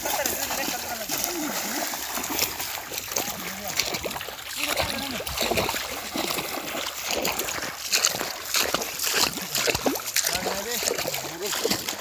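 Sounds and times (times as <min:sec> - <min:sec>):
wading through shallow water: 0:00.0 - 0:12.0.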